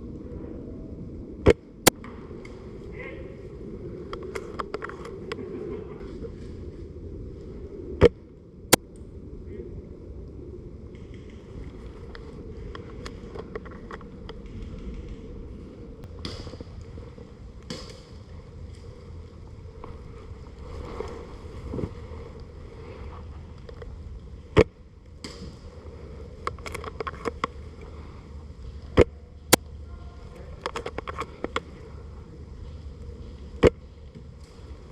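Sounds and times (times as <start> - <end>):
steady outdoor rumble: 0.0 - 34.9.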